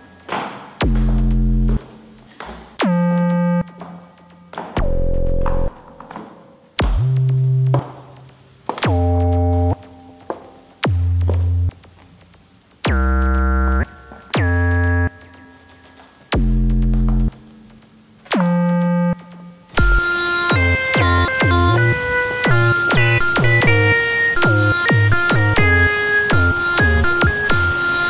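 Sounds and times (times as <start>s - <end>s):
low synthesizer notes: 0.8s - 28.0s.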